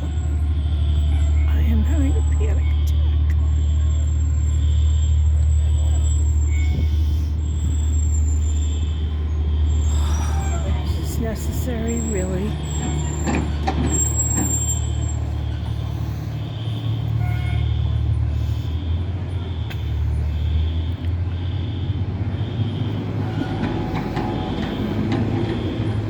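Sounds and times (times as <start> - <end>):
diesel engine idling: 0.0 - 26.0
fire alarm beeping: 0.6 - 10.0, 13.9 - 26.0.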